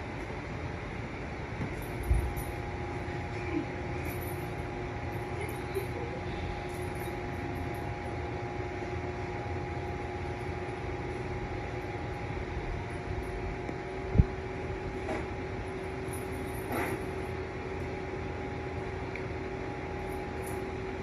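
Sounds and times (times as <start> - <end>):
electric fan whirring: 0.0 - 21.0.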